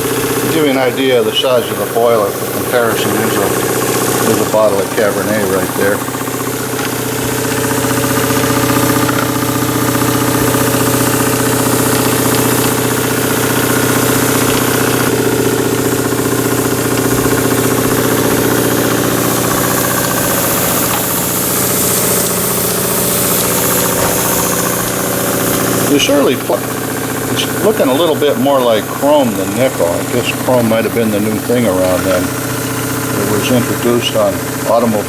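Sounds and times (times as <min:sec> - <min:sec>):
mechanical whirr: 0:00.0 - 0:35.0
steam engine exhaust beat: 0:00.0 - 0:35.0.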